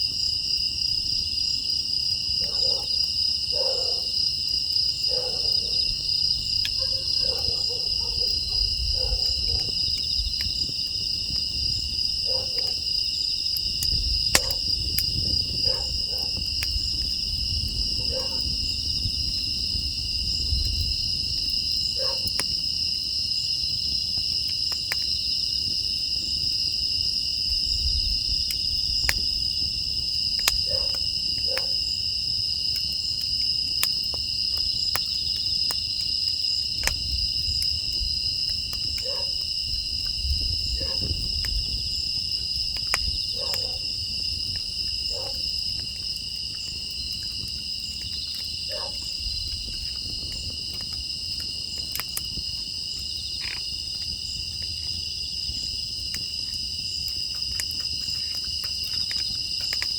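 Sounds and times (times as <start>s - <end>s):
crickets trilling: 0.0s - 59.9s
wood fire crackling and popping: 0.0s - 59.9s.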